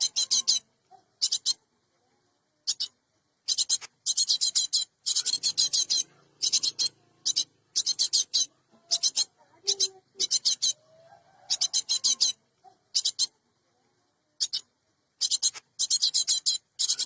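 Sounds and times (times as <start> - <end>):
bird giving rasping churr calls: 0.0 - 1.7, 2.6 - 13.4, 14.4 - 17.0.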